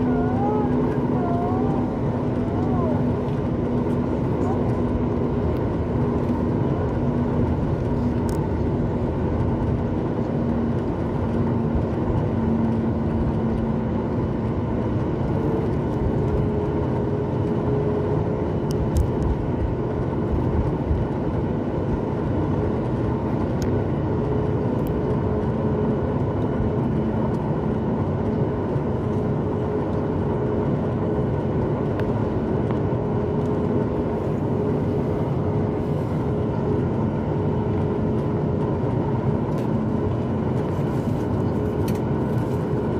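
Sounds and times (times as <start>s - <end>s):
jet engines roaring: 0.0s - 42.9s
steady low hum: 0.0s - 42.9s.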